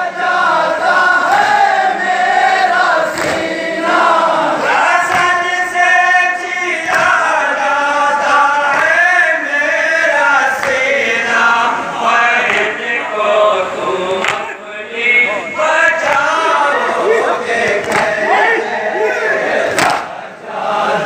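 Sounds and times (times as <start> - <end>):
men singing a lament together: 0.0 - 21.0.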